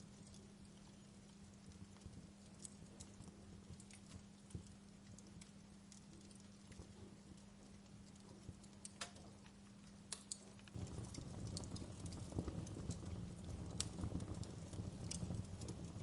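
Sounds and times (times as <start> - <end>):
low rumble of burning: 0.0 - 16.0
wood fire crackling: 0.0 - 16.0.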